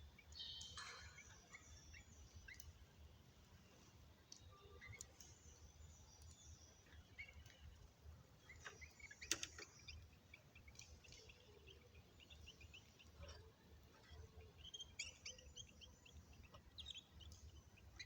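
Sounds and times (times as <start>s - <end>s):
cage birds chirping faintly: 0.0s - 18.0s.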